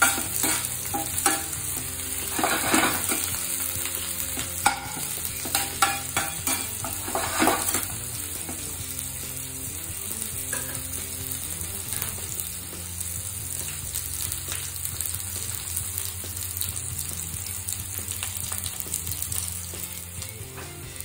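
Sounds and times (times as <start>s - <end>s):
oil popping: 0.0s - 20.6s
onions sizzling in a pan: 0.0s - 21.0s.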